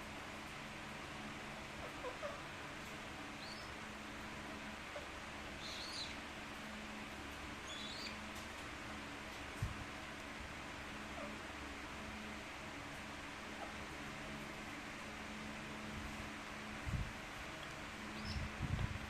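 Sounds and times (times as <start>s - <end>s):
background hiss and hum: 0.0s - 19.0s.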